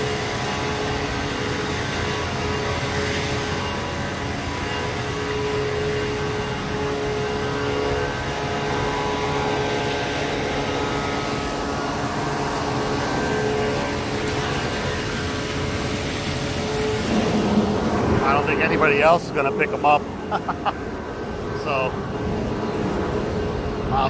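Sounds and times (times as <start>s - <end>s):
constant held tone: 0.0s - 24.0s
engine humming: 0.0s - 24.0s.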